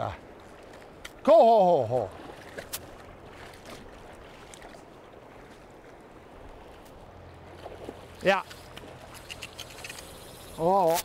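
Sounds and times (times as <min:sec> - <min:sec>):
faint splashes: 0:00.0 - 0:11.0.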